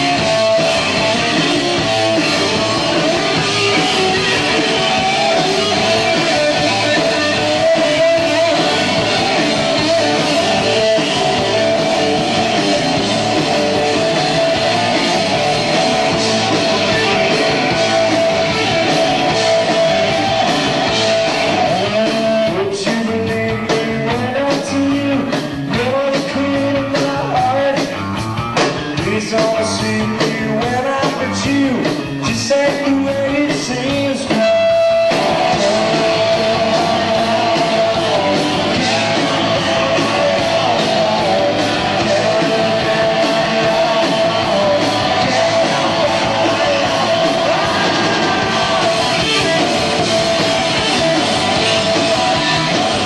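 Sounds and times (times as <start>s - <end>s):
live punk rock band: 0.0s - 53.0s.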